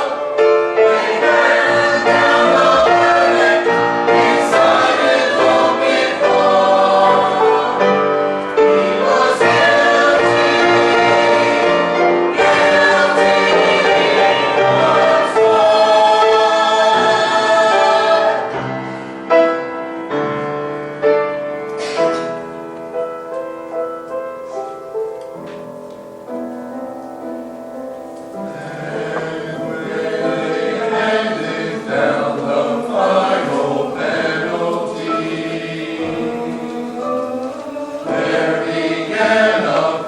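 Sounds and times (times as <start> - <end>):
choir singing: 0.0 - 20.6, 21.8 - 40.0
instrumental accompaniment: 0.0 - 40.0.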